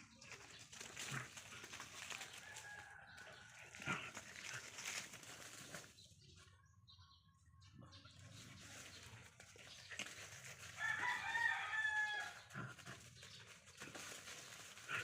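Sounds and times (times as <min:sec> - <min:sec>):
dogs scuffling: 0:00.2 - 0:06.0, 0:08.4 - 0:15.0.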